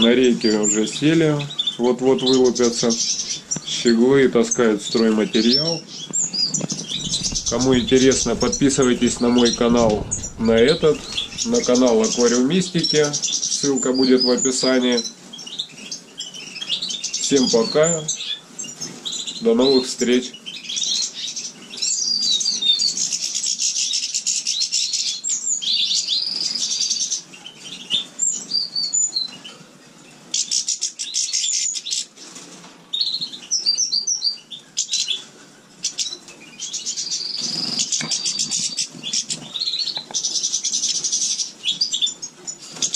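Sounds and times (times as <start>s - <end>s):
songbirds singing and twittering: 0.0s - 42.9s.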